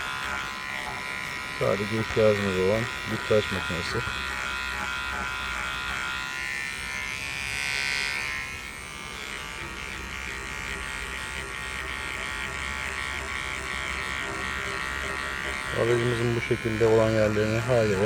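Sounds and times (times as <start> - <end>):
electric shaver buzzing on fabric: 0.0 - 18.0.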